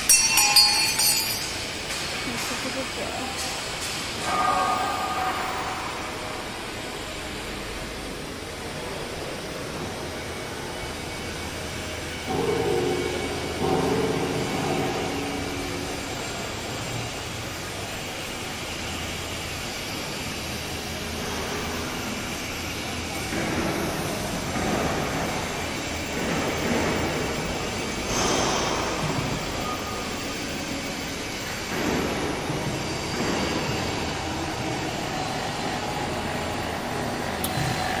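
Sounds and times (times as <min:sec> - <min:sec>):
machinery whirring: 0:00.0 - 0:38.0
workshop machinery humming: 0:00.0 - 0:38.0.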